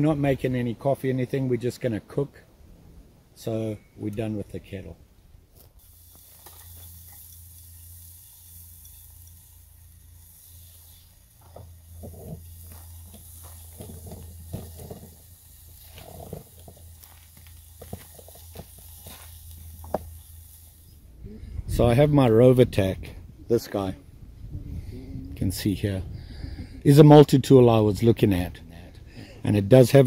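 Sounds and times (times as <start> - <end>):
steady high hiss: 0.0 - 30.0
low hum: 2.4 - 29.5.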